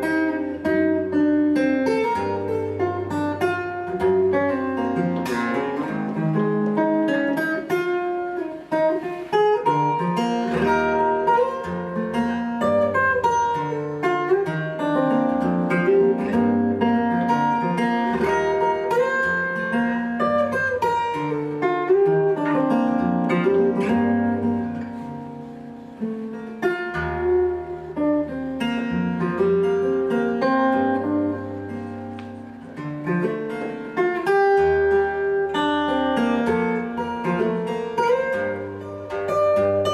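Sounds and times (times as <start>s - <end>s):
fingerstyle acoustic guitar: 0.0s - 39.9s.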